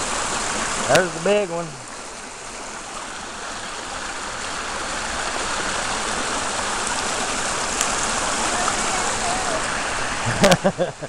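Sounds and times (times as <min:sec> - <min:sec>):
spring water gushing: 0:00.0 - 0:11.0.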